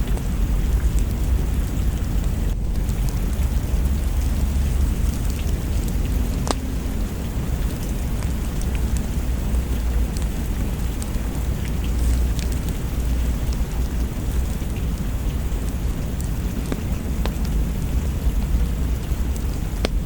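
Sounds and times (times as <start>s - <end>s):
deep low rumble: 0.0s - 20.0s
heavy rain: 0.0s - 20.0s
sharp ticks and pops: 0.1s - 20.0s.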